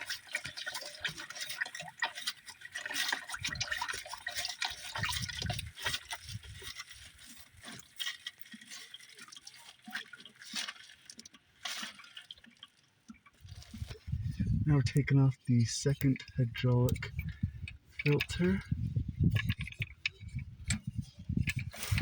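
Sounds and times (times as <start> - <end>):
oil dripping and trickling: 0.0 - 22.0.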